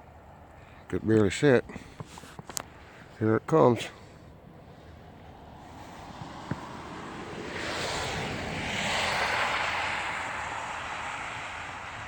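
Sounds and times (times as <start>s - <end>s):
tyres hissing on snowy road: 1.7s - 12.0s.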